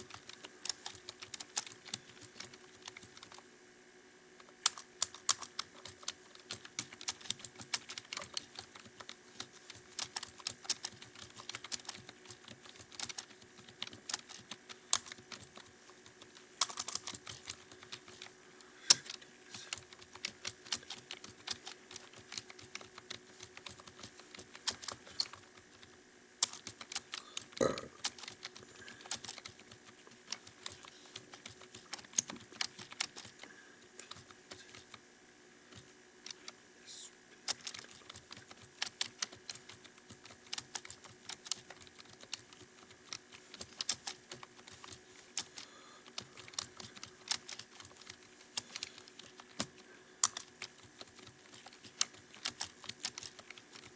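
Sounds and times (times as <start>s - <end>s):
fast keyboard typing: 0.0s - 3.5s, 4.4s - 35.0s, 35.6s - 36.6s, 37.4s - 53.9s
faint steady hum: 0.0s - 53.9s.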